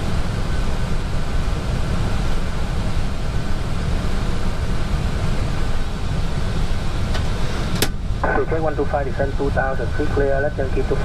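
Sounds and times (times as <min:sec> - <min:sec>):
faint steady hum: 0:00.0 - 0:11.0
rush of airflow in cockpit: 0:00.0 - 0:11.0.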